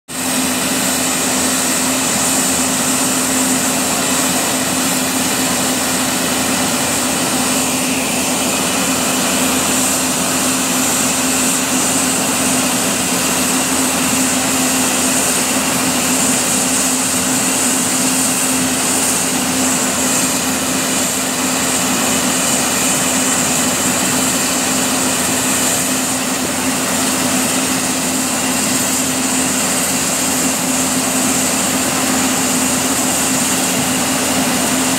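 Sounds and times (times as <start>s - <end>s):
machinery hum: 0.2s - 34.9s.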